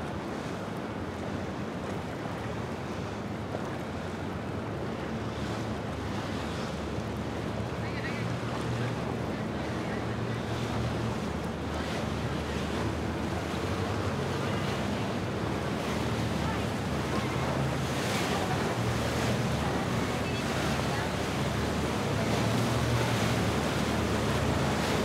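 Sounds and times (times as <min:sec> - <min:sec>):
boat engines running: 0:00.4 - 0:25.0
water wash: 0:03.4 - 0:25.0.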